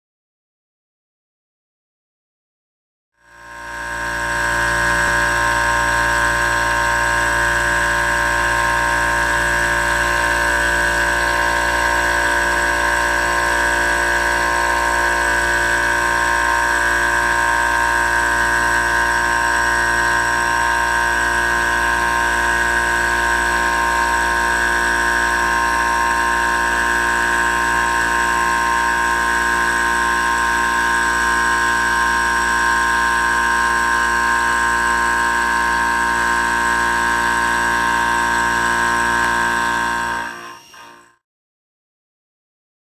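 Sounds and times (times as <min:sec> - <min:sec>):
milling machine high whine: 0:03.3 - 0:41.1.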